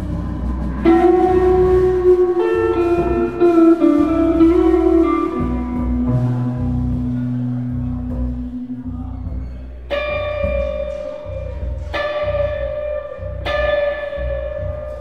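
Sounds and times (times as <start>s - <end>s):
electric guitar melody: 0.0s - 15.0s
live rock band playing: 0.0s - 15.0s
steady bass note: 0.0s - 15.0s.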